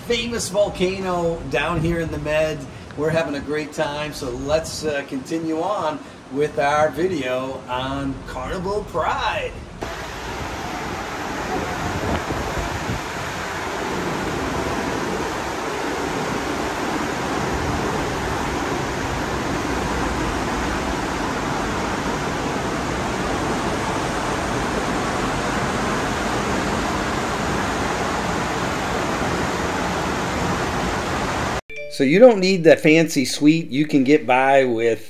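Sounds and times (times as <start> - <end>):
wind and sea rushing: 0.0 - 31.6.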